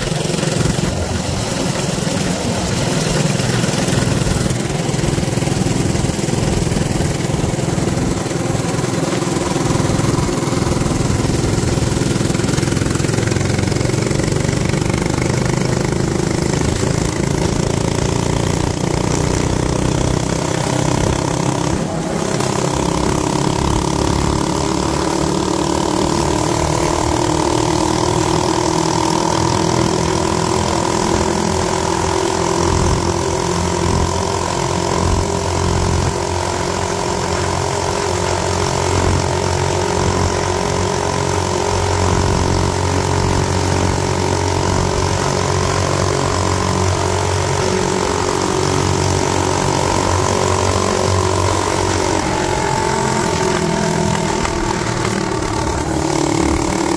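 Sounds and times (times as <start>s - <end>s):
minibike engine running: 0.0s - 56.9s.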